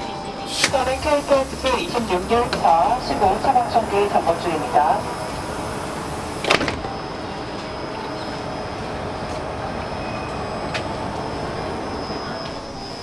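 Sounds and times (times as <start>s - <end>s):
faint high whine: 0.0s - 13.0s
train humming at platform: 0.0s - 13.0s.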